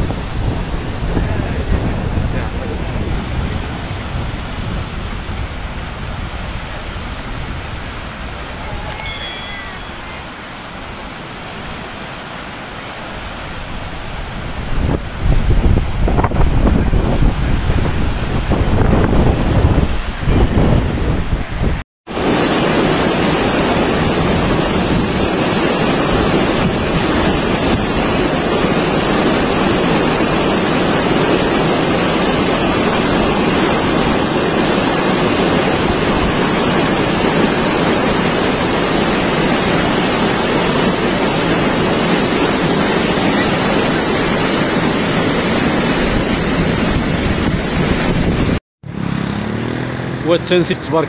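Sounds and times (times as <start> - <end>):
floodwater rushing: 0.0 - 48.6.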